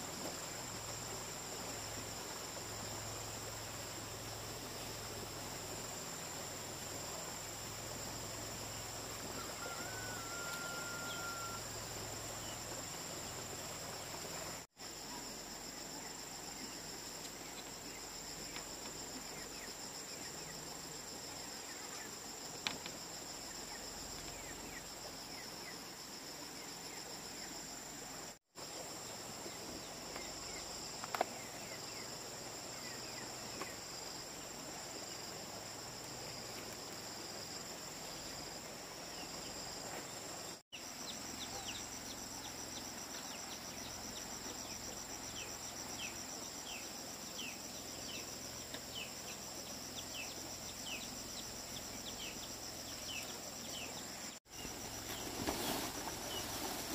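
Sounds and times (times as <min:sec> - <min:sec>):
insects chirping: 0:00.0 - 0:56.9.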